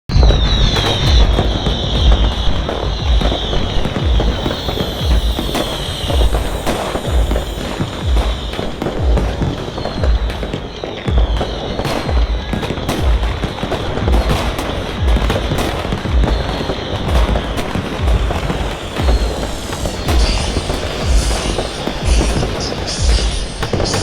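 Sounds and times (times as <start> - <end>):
fireworks bangs and crackles: 0.1 - 24.0
music with deep thump: 0.1 - 24.0.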